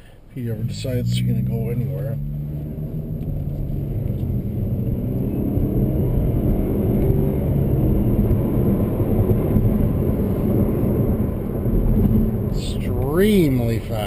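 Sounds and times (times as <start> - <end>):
road rumble: 0.0 - 14.0
car engine accelerating: 0.4 - 14.0.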